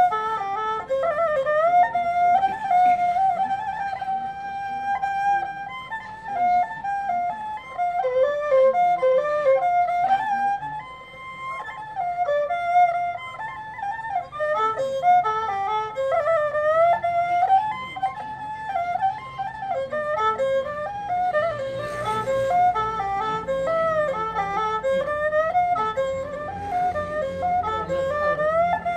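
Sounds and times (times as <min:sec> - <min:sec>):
bowed fiddle solo melody: 0:00.0 - 0:28.9.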